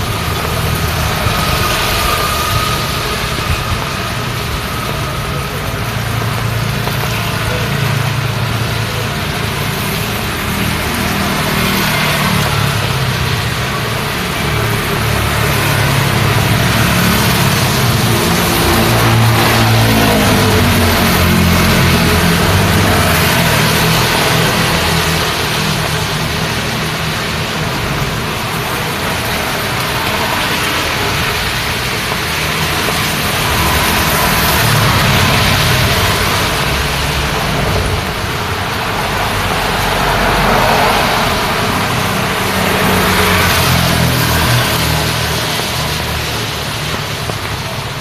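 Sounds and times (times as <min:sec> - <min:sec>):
car and motorbike engines humming: 0:00.0 - 0:48.0
rain hiss: 0:00.0 - 0:48.0
wet tyres on road: 0:00.0 - 0:48.0.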